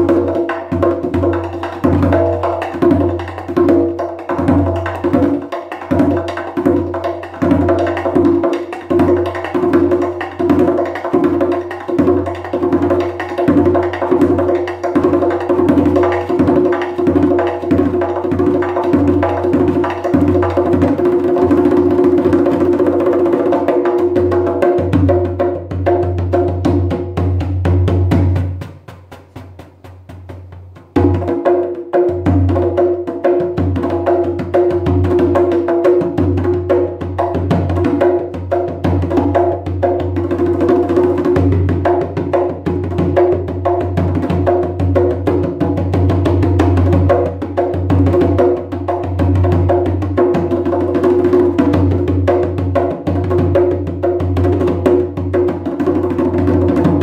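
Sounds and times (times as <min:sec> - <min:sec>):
hand drum fast rhythm: 0:00.0 - 0:57.0.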